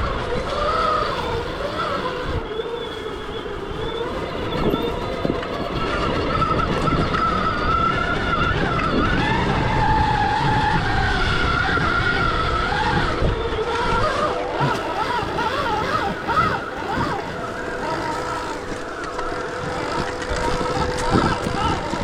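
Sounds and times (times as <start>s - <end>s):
electric motor whine: 0.0s - 22.0s
tyres rumbling on rough ground: 0.0s - 22.0s.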